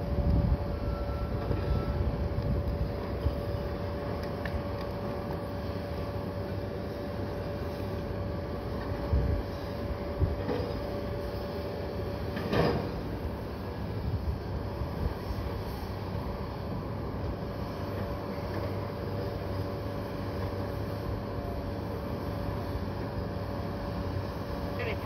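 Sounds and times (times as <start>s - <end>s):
diesel engines running: 0.0s - 25.0s
steady high hum: 0.0s - 25.0s.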